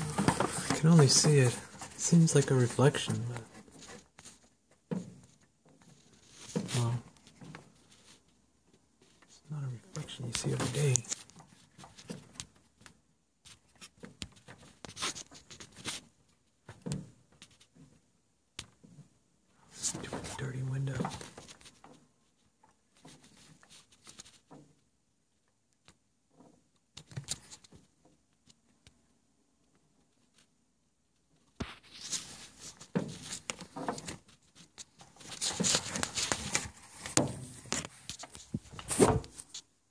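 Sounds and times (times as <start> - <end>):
handling noise rustles and clicks: 0.0 - 19.1, 19.7 - 24.9, 31.2 - 39.8.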